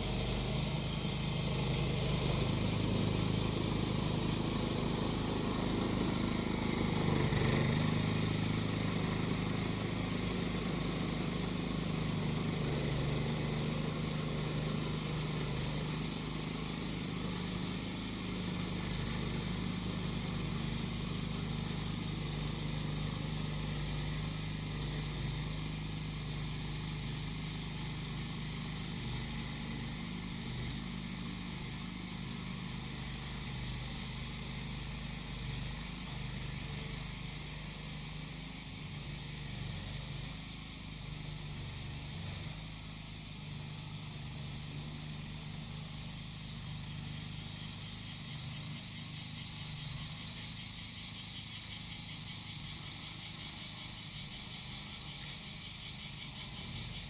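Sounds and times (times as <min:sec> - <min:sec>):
cicadas singing: 0:00.0 - 0:57.0
grass cutter engine running: 0:00.0 - 0:57.0.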